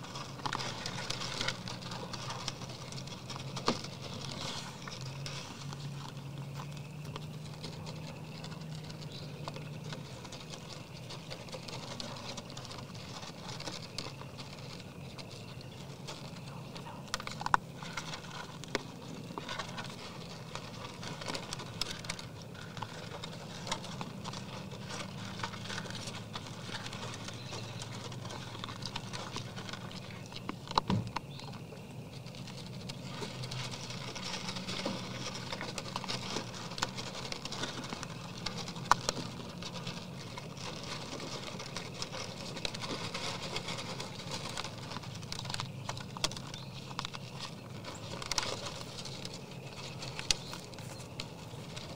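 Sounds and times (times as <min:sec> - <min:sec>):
deer crunching feed in a tub: 0:00.0 - 0:51.9
steady low hum: 0:00.0 - 0:51.9.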